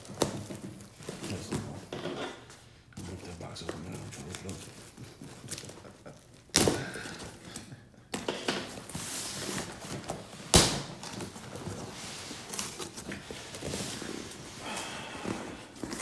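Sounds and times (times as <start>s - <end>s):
cardboard rustling and scraping: 0.0s - 6.4s, 8.2s - 14.6s, 15.2s - 16.0s.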